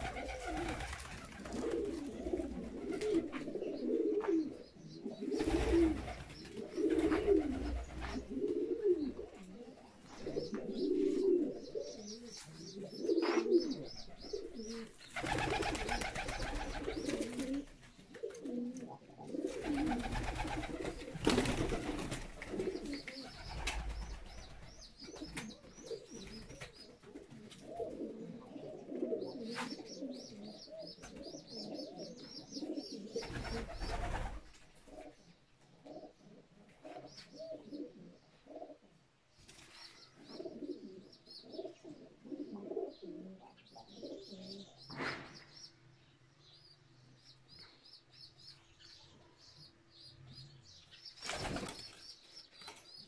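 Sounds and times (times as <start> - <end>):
pigeons cooing: 0.0 - 38.9, 40.2 - 44.8.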